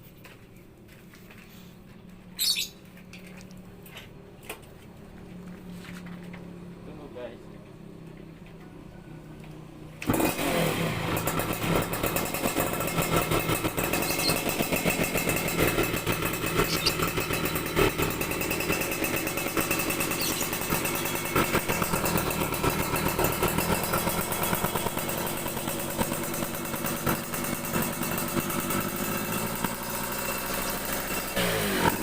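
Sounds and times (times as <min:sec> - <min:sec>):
motorcycle engine running: 0:04.2 - 0:32.0.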